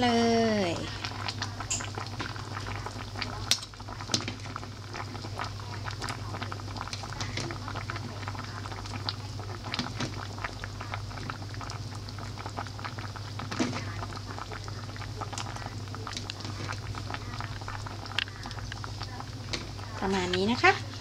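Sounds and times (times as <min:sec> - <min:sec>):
liquid bubbling in a pot: 0:00.0 - 0:21.0.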